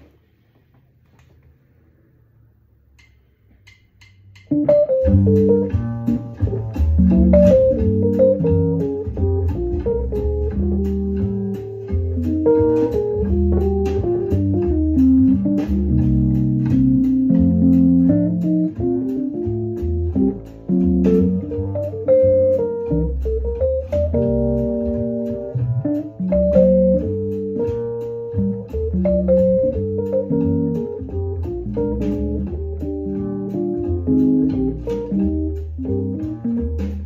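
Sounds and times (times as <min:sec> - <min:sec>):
electric piano chords: 0:04.4 - 0:37.0.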